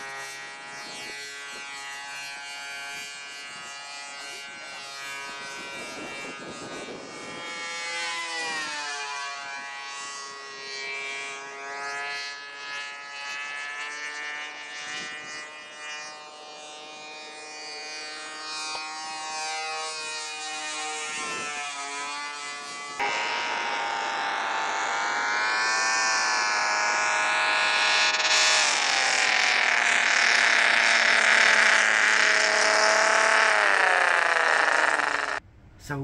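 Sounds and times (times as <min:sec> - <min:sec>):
model aeroplane engine whine: 0:00.0 - 0:36.0.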